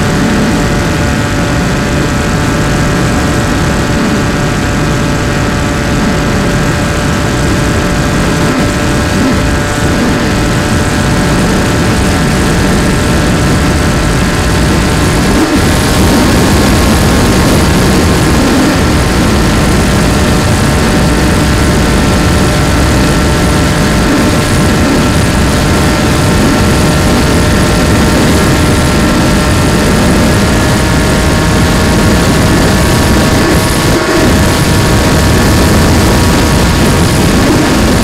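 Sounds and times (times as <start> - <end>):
wind noise on microphone: 0.0 - 38.0.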